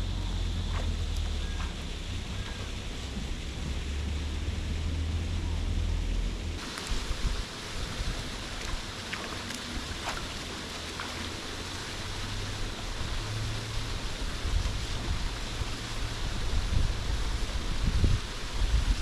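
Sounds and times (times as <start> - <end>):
river water rushing: 0.0 - 19.0
wind rumbling on microphone: 0.0 - 19.0.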